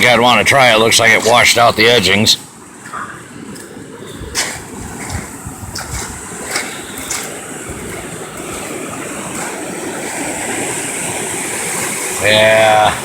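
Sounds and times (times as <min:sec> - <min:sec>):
rushing floodwater: 0:00.0 - 0:13.0.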